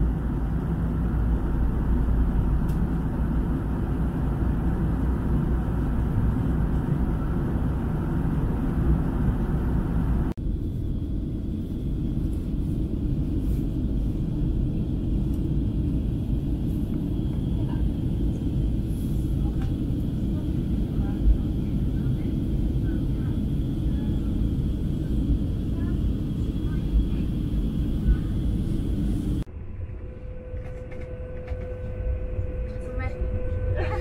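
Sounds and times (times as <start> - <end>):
jet engine cabin rumble: 0.0 - 34.0.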